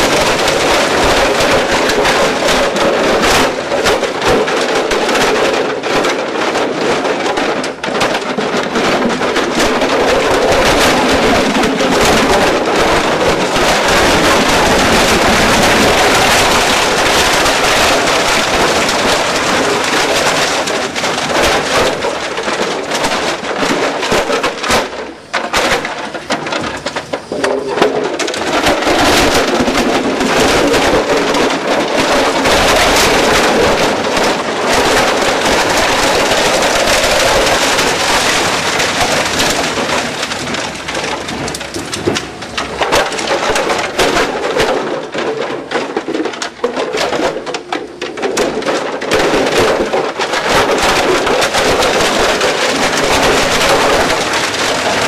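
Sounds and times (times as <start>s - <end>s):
plastic cracking in a shredder: 0.0s - 55.0s.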